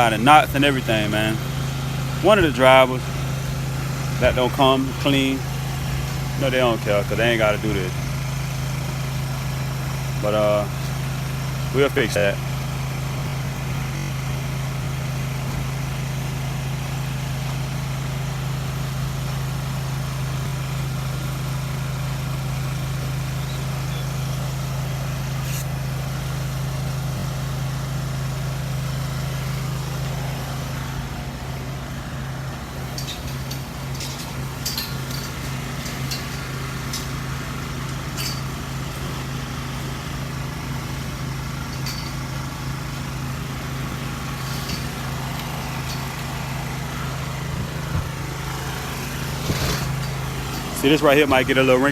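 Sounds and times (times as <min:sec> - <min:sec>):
small engine droning: 0:00.0 - 0:51.9.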